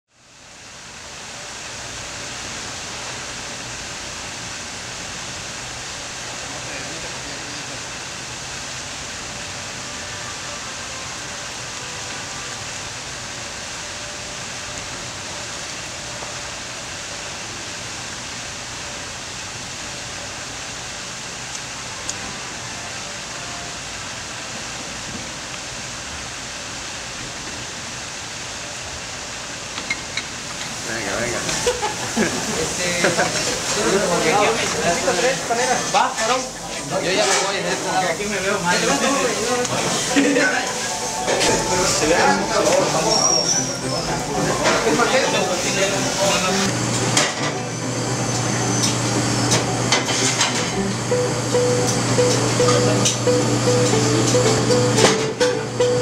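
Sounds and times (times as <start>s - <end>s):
steady rushing hiss: 0.2s - 56.0s.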